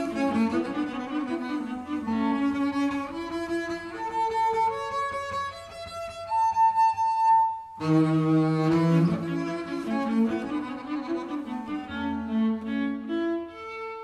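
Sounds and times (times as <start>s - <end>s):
viola melody: 0.0s - 14.0s.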